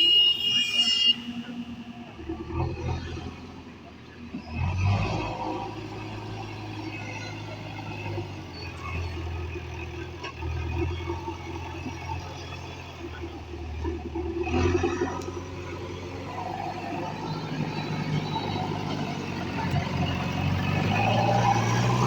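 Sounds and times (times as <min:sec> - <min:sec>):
diesel engine running: 0:01.2 - 0:22.0.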